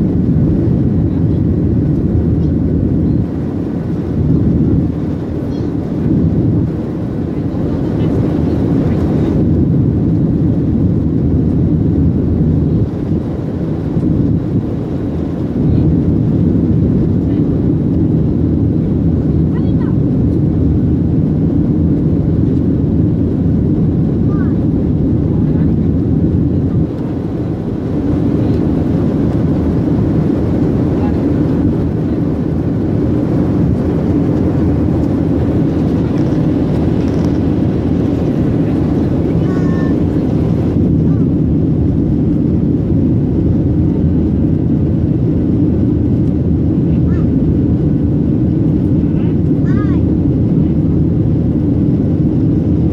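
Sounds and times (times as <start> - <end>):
jet engine rumble in cabin: 0.0 - 52.9
rushing air: 0.0 - 52.9.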